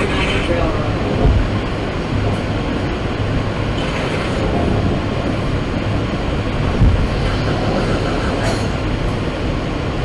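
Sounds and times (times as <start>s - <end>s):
subway car rumble: 0.0s - 10.0s.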